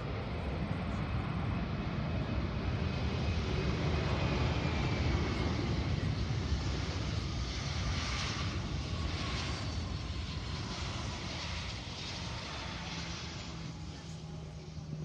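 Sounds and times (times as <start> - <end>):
airplane engines rumbling: 0.0 - 15.0.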